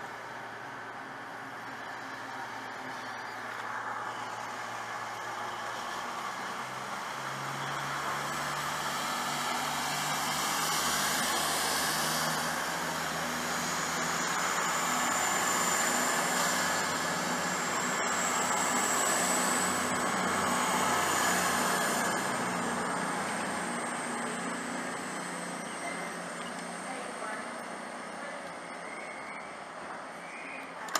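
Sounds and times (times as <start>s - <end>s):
diesel train engines running: 0.0s - 30.9s.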